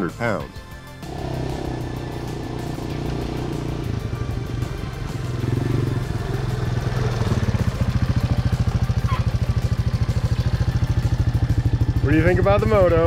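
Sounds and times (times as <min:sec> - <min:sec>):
quad engine running: 0:01.0 - 0:13.0.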